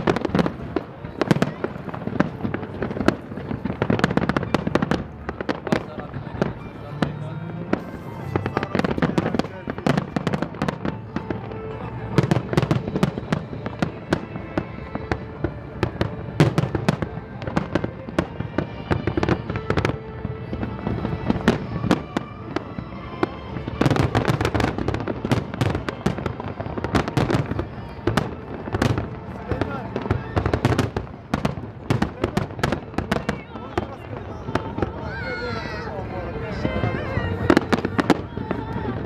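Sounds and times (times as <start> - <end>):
fireworks bangs: 0.0 - 39.0
music: 0.0 - 39.0.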